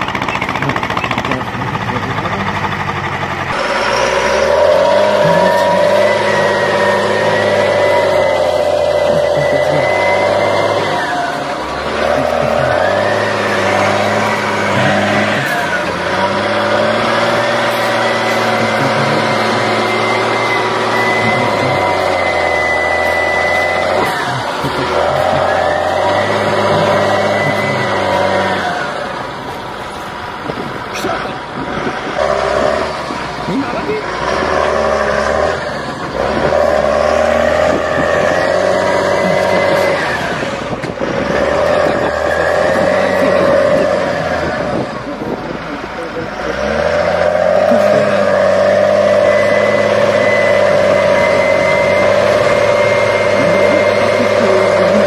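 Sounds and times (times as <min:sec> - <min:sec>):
tractor diesel engine running hard: 0:00.0 - 0:55.0.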